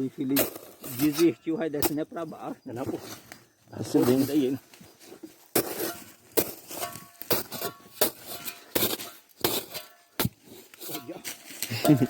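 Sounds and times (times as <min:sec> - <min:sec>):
metal tool digging into earth: 0:00.0 - 0:12.0.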